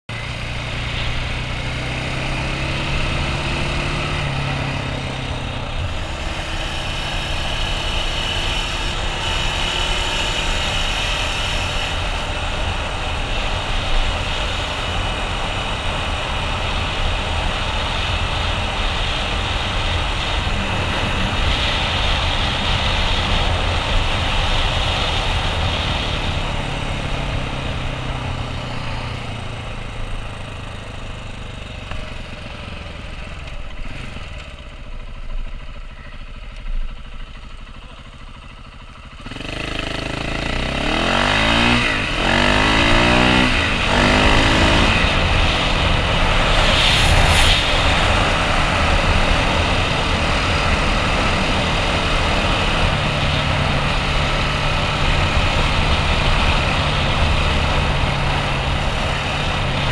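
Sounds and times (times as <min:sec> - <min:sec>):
motorcycle engine running: 0:00.1 - 0:59.9
wind rushing over microphone: 0:00.8 - 0:30.1, 0:39.3 - 0:59.9.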